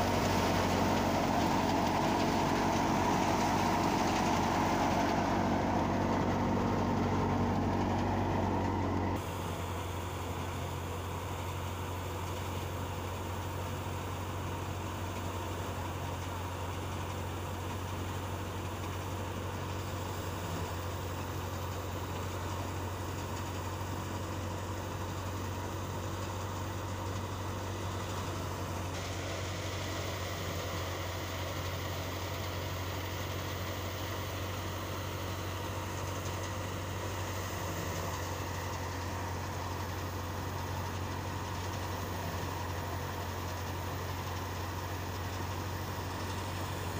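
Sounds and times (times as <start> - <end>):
tractor engine and thresher drone: 0.0 - 46.9.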